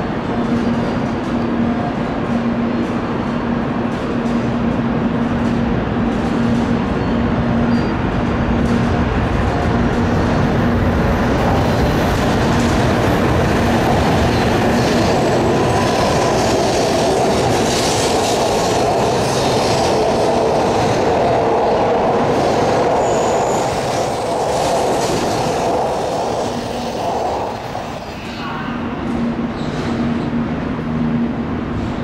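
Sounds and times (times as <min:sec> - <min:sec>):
high-speed train passing: 0:00.0 - 0:32.0.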